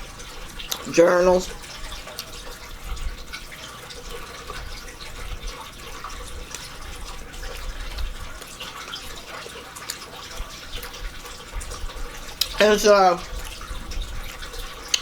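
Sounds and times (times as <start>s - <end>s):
wet chewing and mouth noises: 0.0s - 15.0s.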